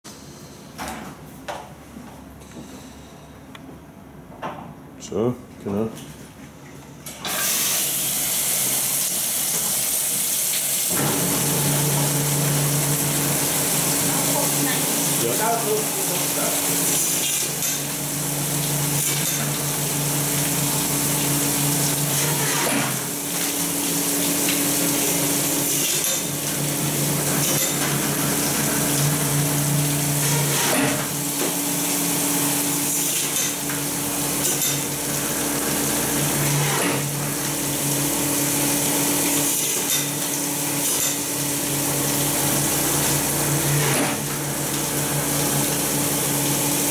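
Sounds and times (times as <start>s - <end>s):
water spraying: 7.3s - 46.9s.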